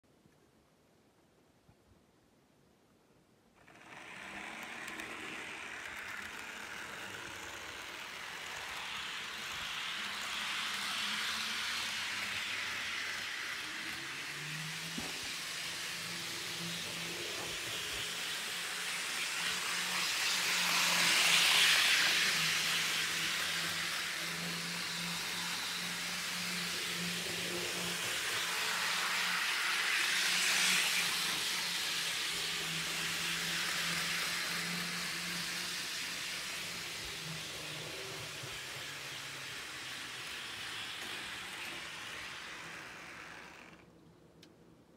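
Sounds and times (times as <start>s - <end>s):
electric motor hum: 3.6s - 43.9s
wheels hissing on rails: 3.6s - 43.9s.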